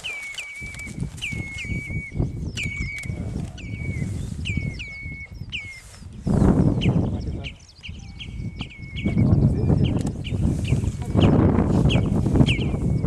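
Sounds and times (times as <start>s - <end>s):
bird whistled call: 0.0s - 13.0s.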